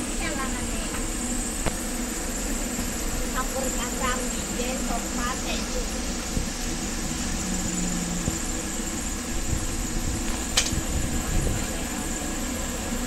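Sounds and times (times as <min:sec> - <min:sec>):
low traffic rumble: 0:00.0 - 0:13.0
mechanical hum: 0:00.0 - 0:13.0.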